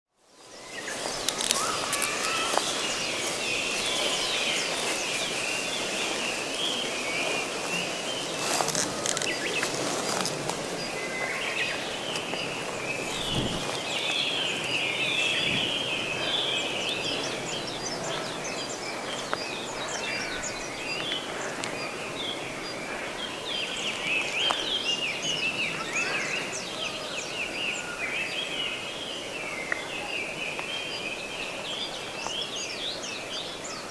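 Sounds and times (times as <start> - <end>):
wild birds chirping and trilling: 0.3 - 33.9.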